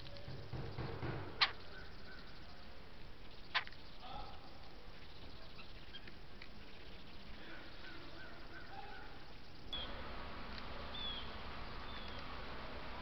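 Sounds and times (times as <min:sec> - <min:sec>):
faint wild bird calls: 0:00.0 - 0:13.0
steady outdoor ambience hiss: 0:00.0 - 0:13.0.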